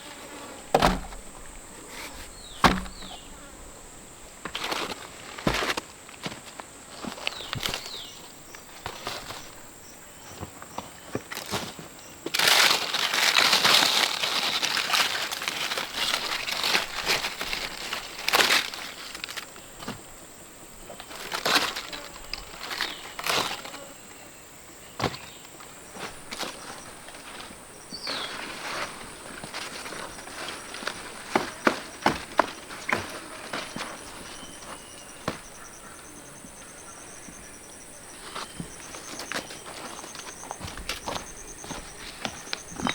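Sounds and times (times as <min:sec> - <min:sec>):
leaves and stems rustling: 0:00.0 - 0:24.2, 0:24.8 - 0:42.9.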